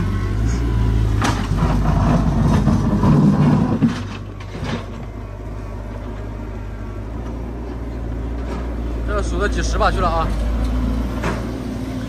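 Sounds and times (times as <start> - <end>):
excavator diesel engine working: 0.0 - 12.0.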